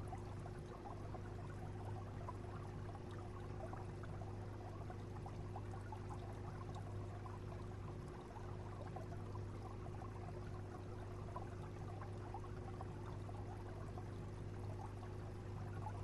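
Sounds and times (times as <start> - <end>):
low pump hum: 0.0 - 16.0
water trickling and bubbling: 0.0 - 16.0.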